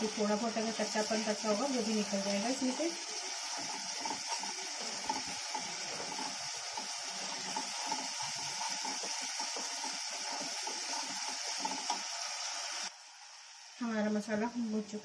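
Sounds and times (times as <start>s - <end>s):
paste sizzling in oil: 0.0s - 15.0s.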